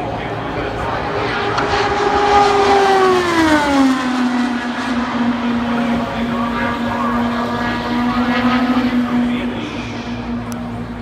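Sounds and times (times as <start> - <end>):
race car engine passing: 0.0 - 11.0.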